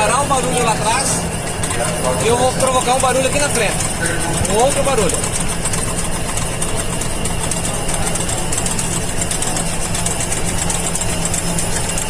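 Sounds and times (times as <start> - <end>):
constant machine hum: 0.0 - 12.0
fast mechanical rattle: 0.0 - 12.0.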